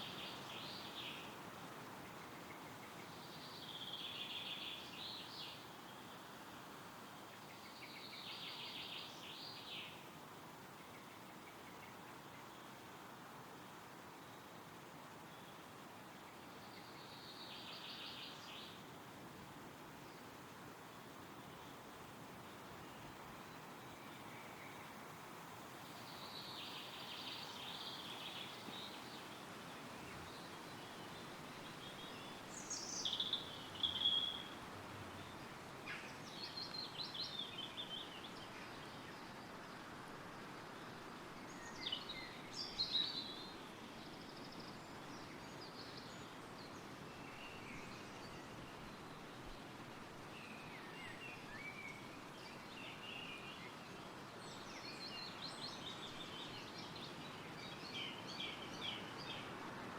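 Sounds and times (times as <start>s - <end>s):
songbirds singing: 0.0s - 59.9s
wind rustling through trees: 0.0s - 59.9s.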